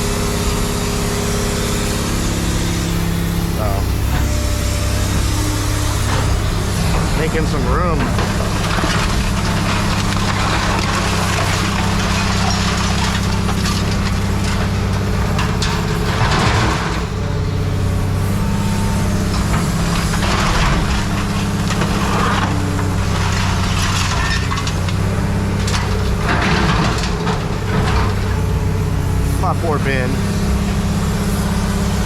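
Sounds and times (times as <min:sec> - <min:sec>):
engine running: 0:00.0 - 0:32.0
debris crunching and clattering: 0:03.6 - 0:17.3, 0:18.4 - 0:31.2.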